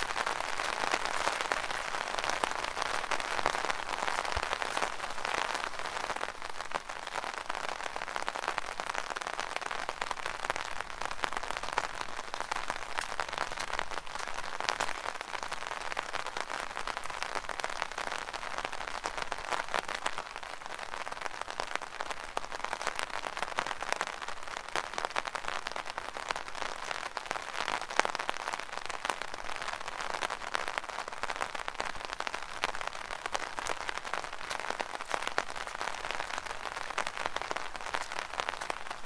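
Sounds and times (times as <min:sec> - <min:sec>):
rain pattering on an umbrella: 0:00.0 - 0:39.0.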